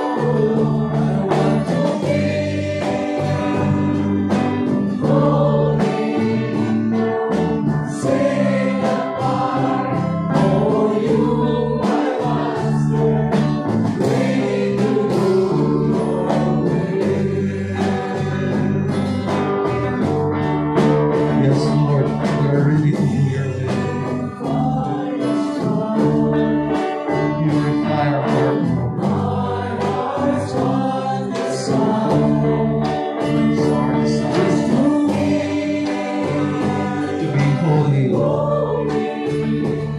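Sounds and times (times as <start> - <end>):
small band playing: 0.0 - 39.9
voices singing gospel melody: 0.0 - 39.9.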